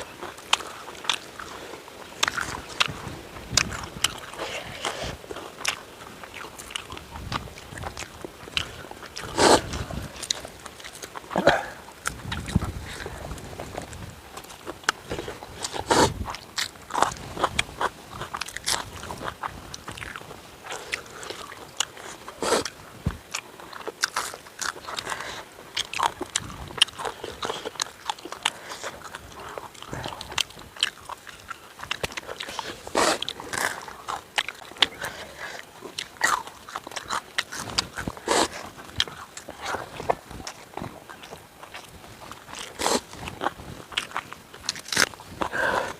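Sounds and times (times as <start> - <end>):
person chewing and crunching food: 0.0 - 45.9.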